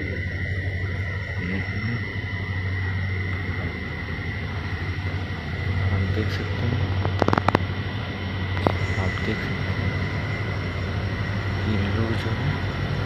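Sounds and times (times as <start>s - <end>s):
thin high whine: 0.0s - 13.0s
train humming: 0.0s - 13.0s.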